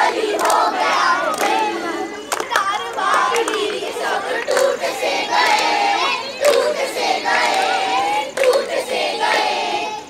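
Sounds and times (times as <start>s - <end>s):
children singing in unison: 0.0s - 10.0s
sharp claps: 0.2s - 9.7s.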